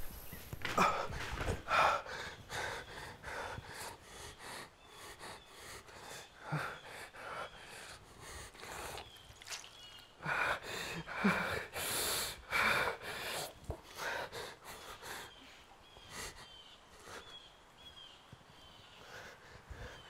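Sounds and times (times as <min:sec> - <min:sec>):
man breathing heavily and gasping: 0:00.6 - 0:17.5, 0:18.9 - 0:20.0.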